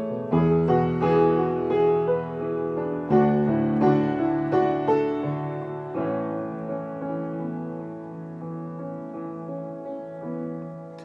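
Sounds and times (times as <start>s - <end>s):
keyboard playing chords: 0.0s - 9.9s.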